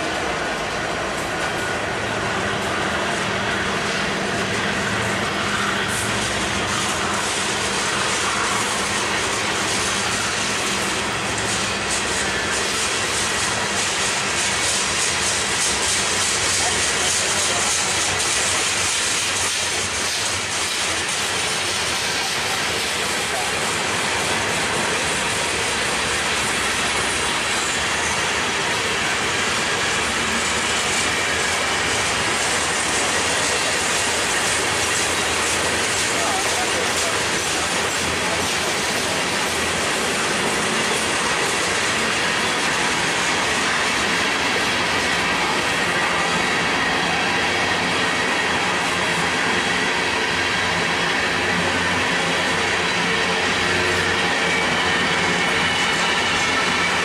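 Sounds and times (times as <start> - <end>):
steel wheels on rail: 0.0 - 57.0.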